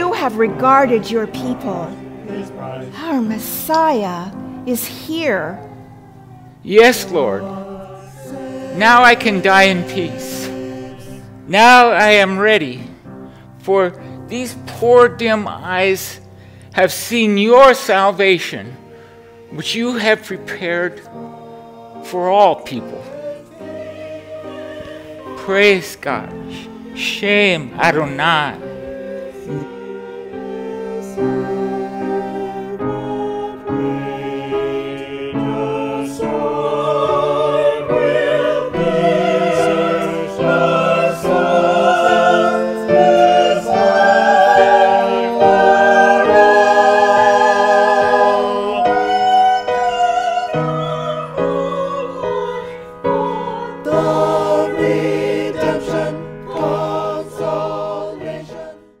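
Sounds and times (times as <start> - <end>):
choir singing: 0.0 - 16.2, 16.8 - 59.0.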